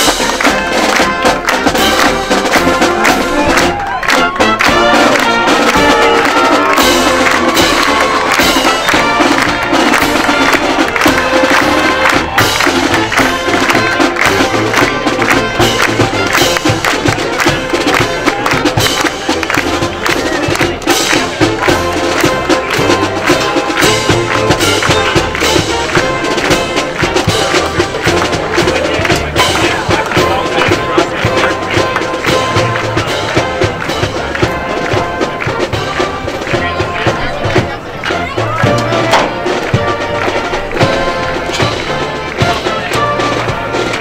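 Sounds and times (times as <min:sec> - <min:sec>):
brass marching band: 0:00.0 - 0:44.0
steady drum beat: 0:00.0 - 0:44.0.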